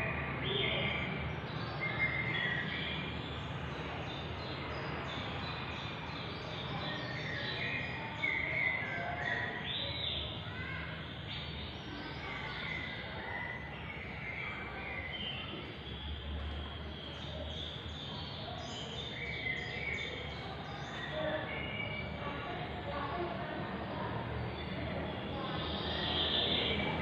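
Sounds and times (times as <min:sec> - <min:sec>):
birds chirping: 0:00.4 - 0:23.3, 0:24.2 - 0:27.0.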